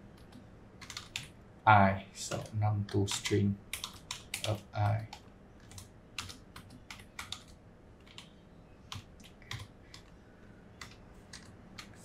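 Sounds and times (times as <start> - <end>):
computer keyboard typing: 0.2 - 1.3, 2.3 - 8.3, 8.9 - 10.2, 10.8 - 12.0.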